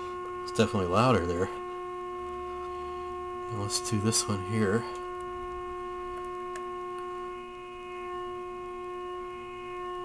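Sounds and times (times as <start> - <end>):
test tone from radio speaker: 0.0 - 10.0.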